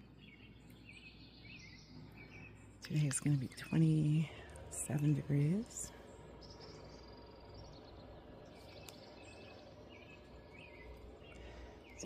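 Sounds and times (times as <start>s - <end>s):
faint bird chirps: 0.0s - 12.0s
low background hum: 0.0s - 12.0s.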